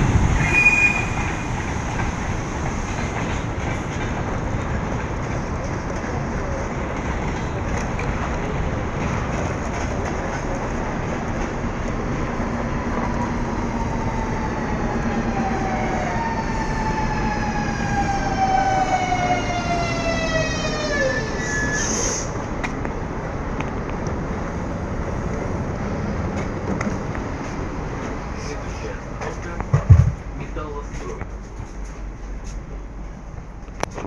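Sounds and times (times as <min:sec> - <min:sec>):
train rolling noise: 0:00.0 - 0:34.0.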